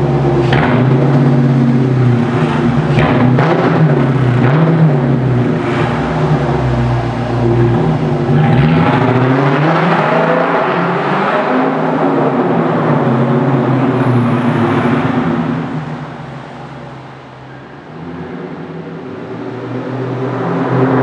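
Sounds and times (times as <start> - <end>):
car exhaust raspy revving: 0.0 - 21.0.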